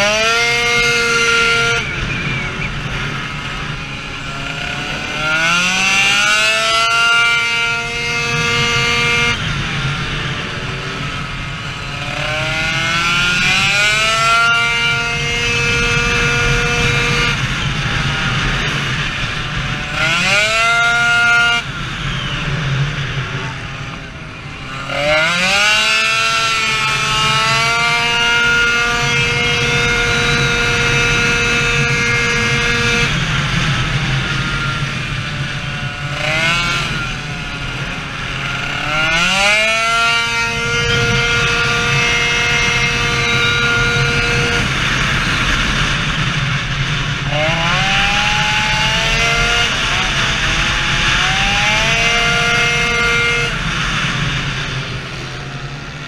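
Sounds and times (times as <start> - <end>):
scooter engine revving: 0.0 - 56.0.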